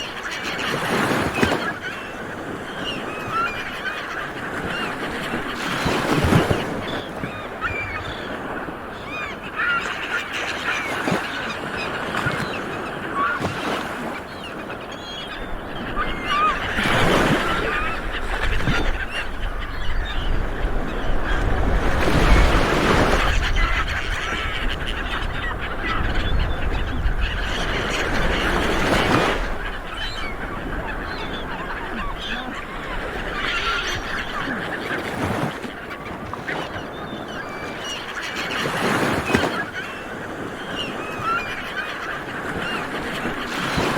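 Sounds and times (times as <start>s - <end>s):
seabirds honking calls: 0.0s - 43.9s.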